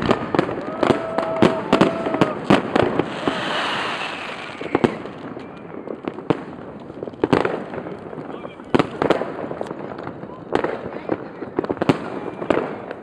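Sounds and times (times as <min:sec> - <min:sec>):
fireworks bangs and cracks: 0:00.0 - 0:13.0
fireworks crackling: 0:00.0 - 0:13.0.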